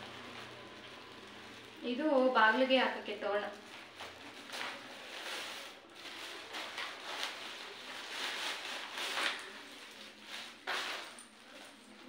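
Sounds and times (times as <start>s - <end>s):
plastic bags rustling: 0.0s - 12.0s.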